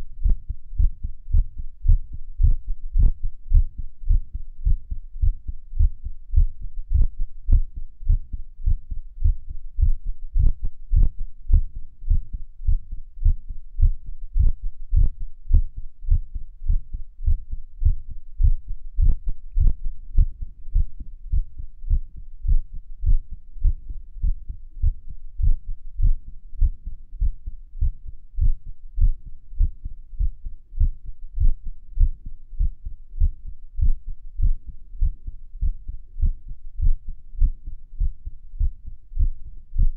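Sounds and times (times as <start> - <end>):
heartbeat thumps: 0.2 - 39.9
sharp heart clicks: 0.2 - 39.9.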